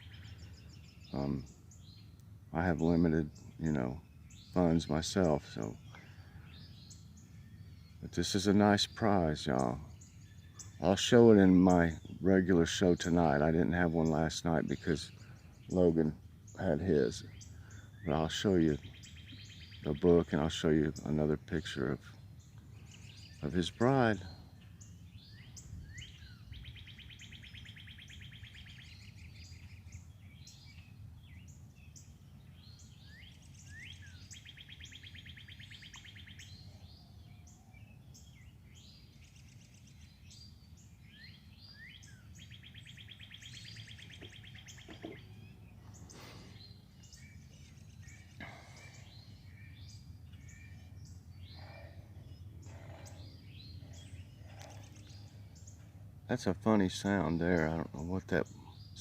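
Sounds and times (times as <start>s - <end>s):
bird trilling: 0.0s - 59.0s
songbirds singing and chirping: 0.0s - 59.0s.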